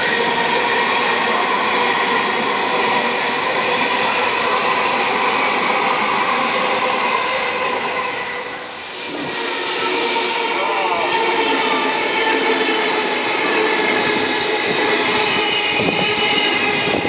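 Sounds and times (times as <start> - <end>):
high train whine: 0.0 - 17.0
train passing at speed: 0.0 - 17.0.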